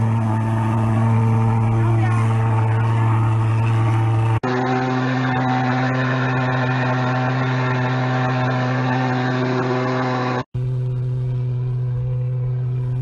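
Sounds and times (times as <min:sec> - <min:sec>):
pulse-jet fogger engine drone: 0:00.0 - 0:13.0.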